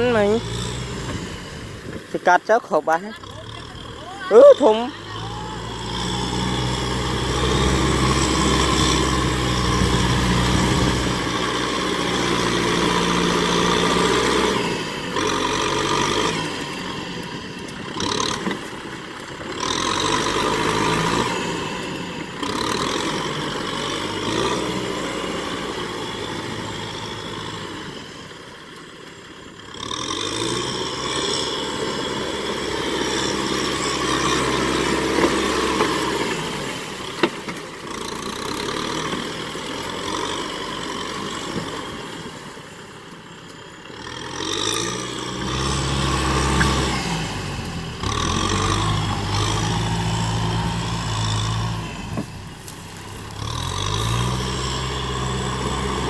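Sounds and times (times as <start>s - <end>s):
tractor diesel engine working hard: 0.0s - 56.0s.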